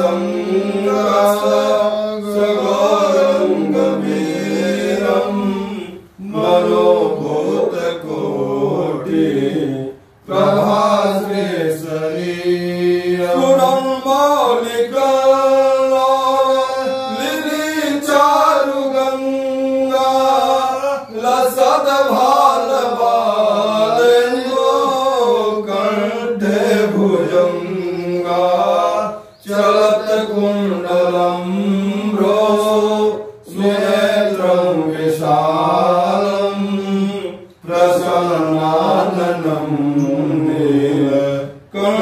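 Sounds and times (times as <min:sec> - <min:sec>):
man chanting melodically: 0:00.0 - 0:42.0.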